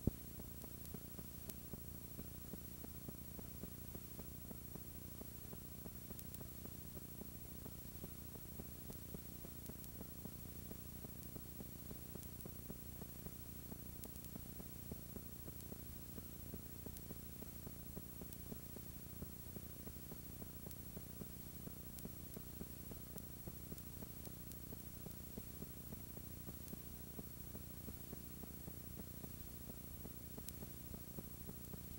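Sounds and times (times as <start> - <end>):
small static ticks: 0.0 - 31.9
static hum and hiss: 0.0 - 31.9.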